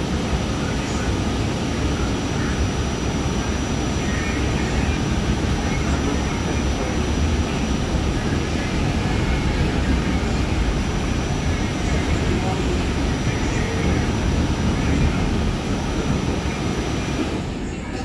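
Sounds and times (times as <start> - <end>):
faint high whine: 0.0 - 18.0
train rumble: 0.0 - 18.0.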